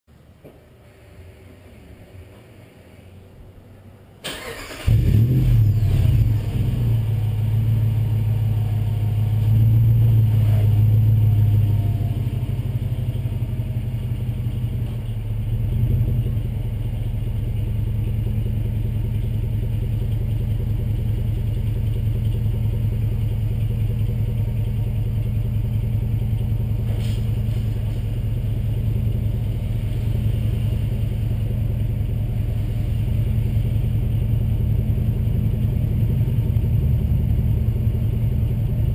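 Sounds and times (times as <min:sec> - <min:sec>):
car engine idling: 0:03.5 - 0:38.9.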